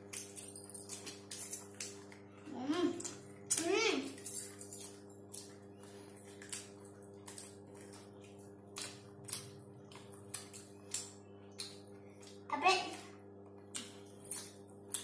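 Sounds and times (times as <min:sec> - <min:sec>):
crunching and chewing fried chicken: 0:00.0 - 0:03.7, 0:04.6 - 0:15.0
steady low hum: 0:00.0 - 0:15.0.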